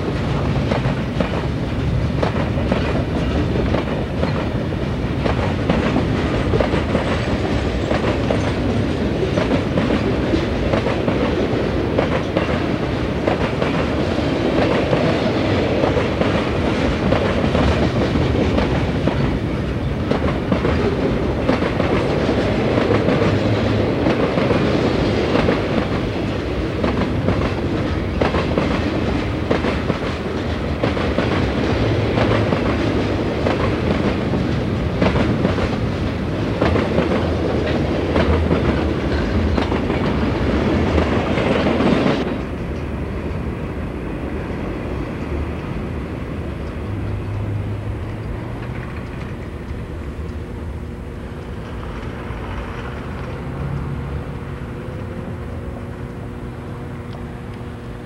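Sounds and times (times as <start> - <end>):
wheels clicking at rail joints: 0.0 - 43.7, 44.4 - 56.1
freight cars rumbling on rails: 0.0 - 58.0.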